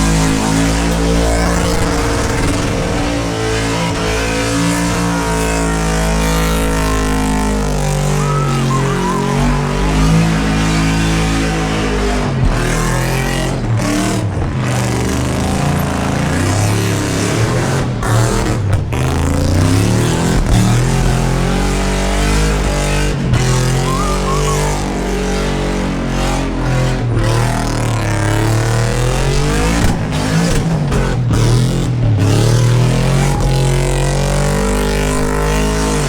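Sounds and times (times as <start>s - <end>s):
car engine revving hard: 0.0s - 36.0s.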